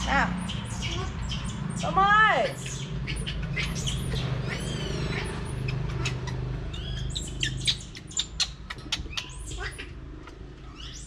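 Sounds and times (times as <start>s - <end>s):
baby monkey squeaking: 0.4s - 10.0s, 10.7s - 11.0s.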